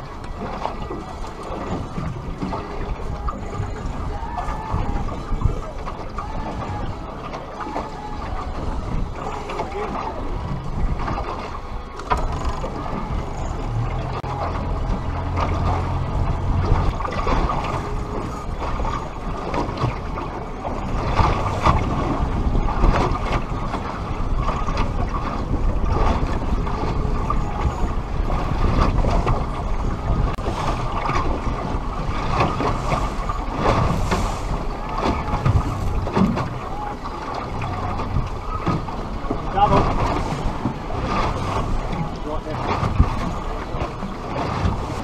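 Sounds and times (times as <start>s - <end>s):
low engine hum: 0.0s - 45.0s
water slapping boat hull: 0.0s - 45.0s
wind buffeting microphone: 0.0s - 45.0s.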